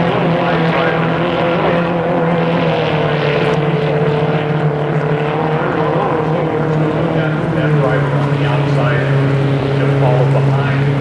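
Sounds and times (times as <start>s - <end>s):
racing boat engines droning: 0.0s - 11.0s.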